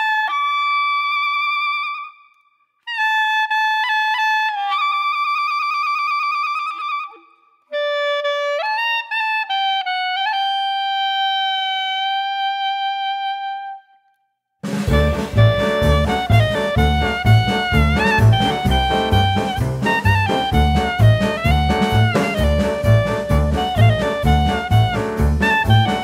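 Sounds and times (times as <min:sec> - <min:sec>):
wind instrument slow melody: 0:02.9 - 0:14.1, 0:14.8 - 0:26.0.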